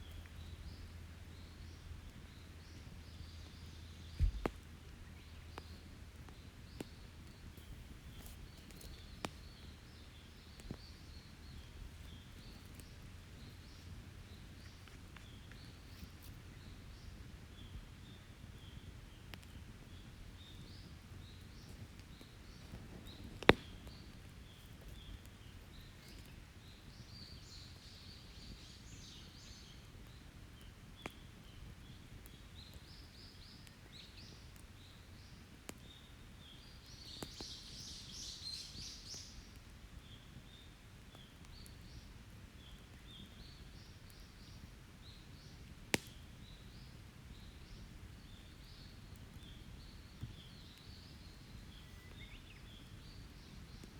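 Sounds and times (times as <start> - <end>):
wood fire popping: 0.0 - 53.9.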